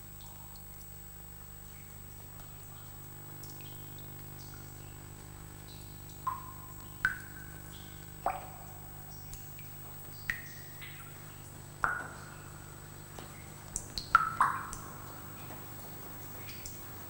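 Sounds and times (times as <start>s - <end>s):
steady low hum: 0.0s - 17.0s
water drops plinking into water: 1.6s - 16.9s.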